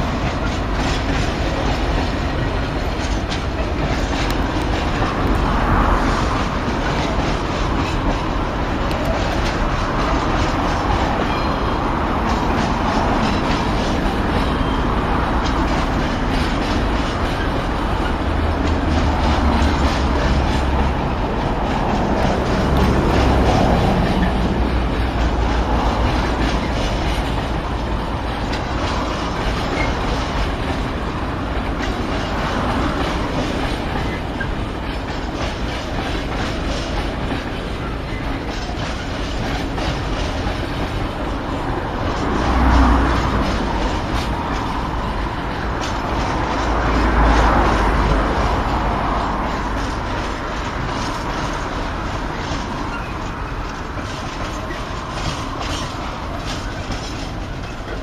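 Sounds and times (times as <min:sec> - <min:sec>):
train wheels clattering over rails: 0:00.0 - 0:58.0.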